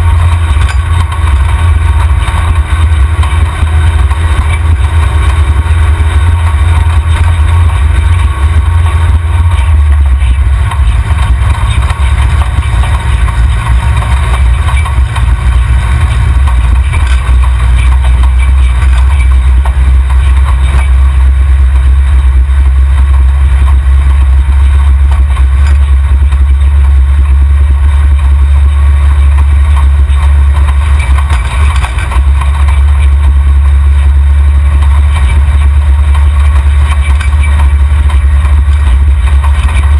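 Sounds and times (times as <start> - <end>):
buggy engine rumbling: 0.0 - 39.9.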